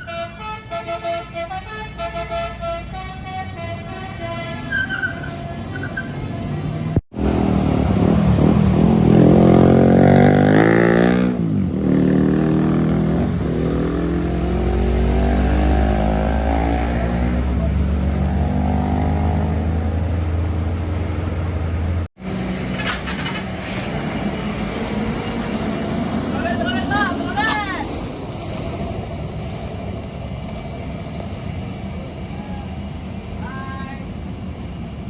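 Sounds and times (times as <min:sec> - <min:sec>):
truck diesel engine under load: 0:00.0 - 0:35.0.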